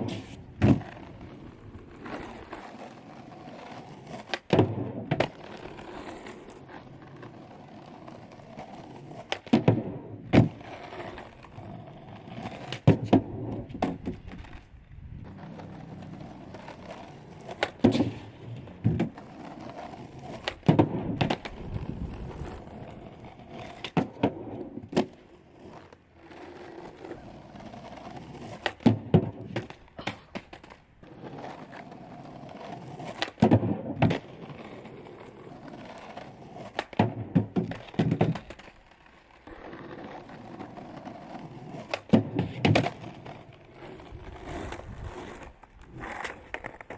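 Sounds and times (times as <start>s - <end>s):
skateboard sharp clacks: 0.0s - 46.9s
skateboard wheels rolling: 0.0s - 46.9s.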